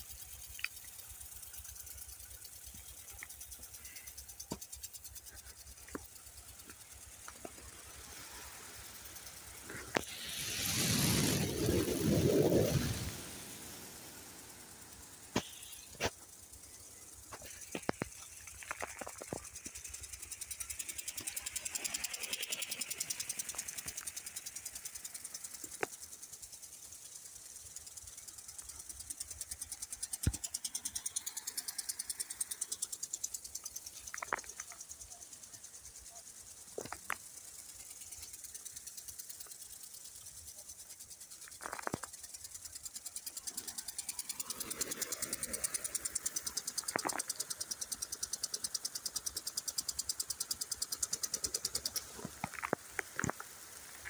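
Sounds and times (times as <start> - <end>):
sprinklers spraying water: 0.0 - 54.0.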